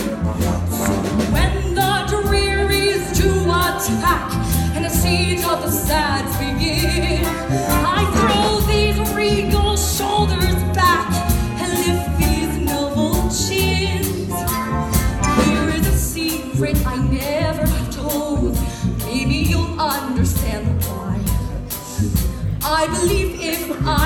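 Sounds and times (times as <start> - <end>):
instrumental accompaniment with beat: 0.0 - 24.0.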